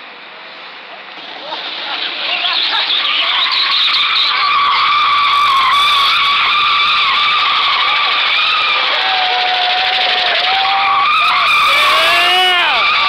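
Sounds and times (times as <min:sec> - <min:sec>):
car tyres squealing: 0:01.8 - 0:13.0.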